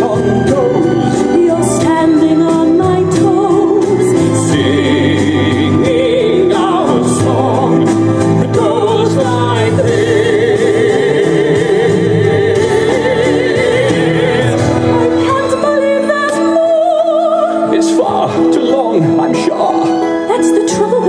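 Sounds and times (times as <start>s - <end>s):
instrumental backing music: 0.0s - 21.0s
people singing with vibrato: 0.0s - 21.0s.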